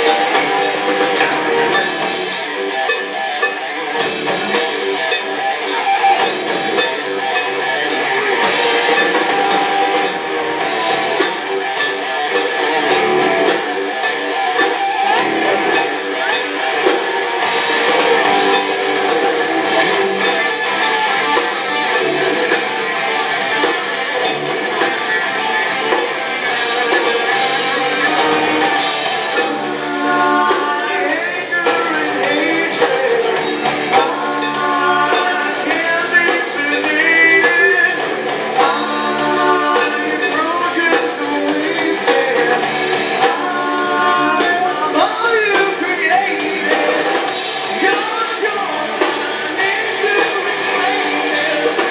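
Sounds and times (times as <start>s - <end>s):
rock band playing: 0.0s - 51.9s
person singing: 5.5s - 51.9s.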